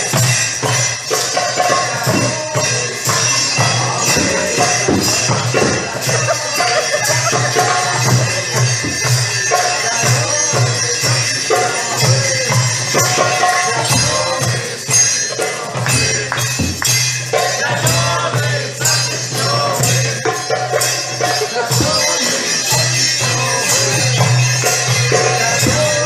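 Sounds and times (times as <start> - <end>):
drum strikes: 0.0 - 26.0
jingling percussion: 0.0 - 26.0.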